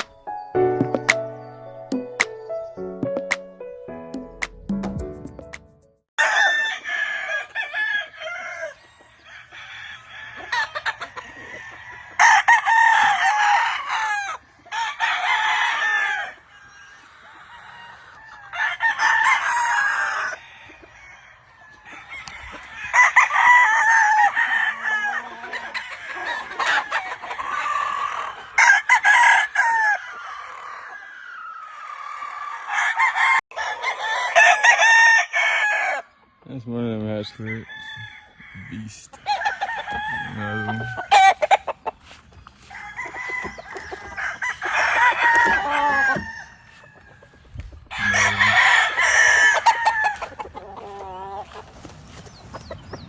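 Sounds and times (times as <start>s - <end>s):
roosters crowing: 6.2s - 53.0s.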